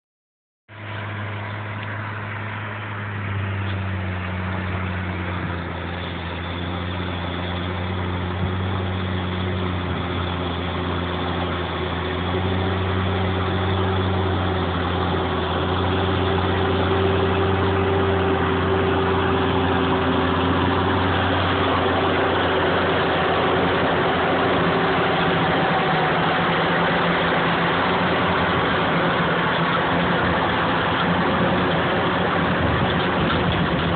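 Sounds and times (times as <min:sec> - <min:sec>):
tractor diesel engine under load: 0:00.7 - 0:33.9.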